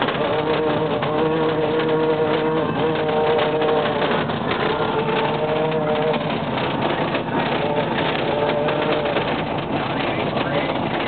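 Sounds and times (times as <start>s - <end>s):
road and wind noise: 0.0s - 11.0s
straps droning in wind: 0.0s - 11.0s.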